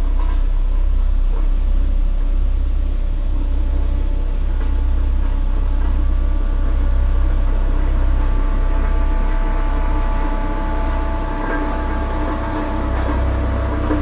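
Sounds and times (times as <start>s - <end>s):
engine hum: 0.0s - 14.0s
road roller rumbling: 0.0s - 14.0s.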